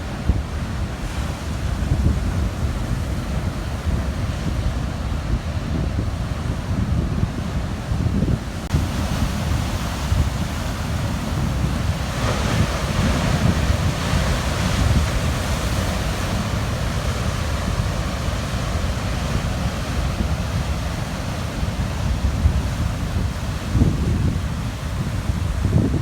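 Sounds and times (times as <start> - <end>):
ocean waves crashing on rocks: 0.0 - 26.0
wind buffeting microphone: 0.0 - 26.0.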